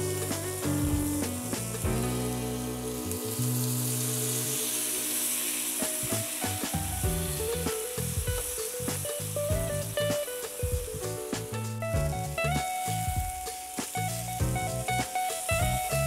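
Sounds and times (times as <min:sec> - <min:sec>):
chicken sizzling in oil: 0:00.0 - 0:16.0
soft background music: 0:00.0 - 0:16.0.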